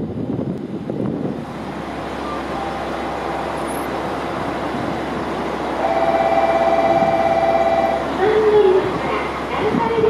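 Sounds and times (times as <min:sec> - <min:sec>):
diesel engine idling: 0:01.2 - 0:10.0.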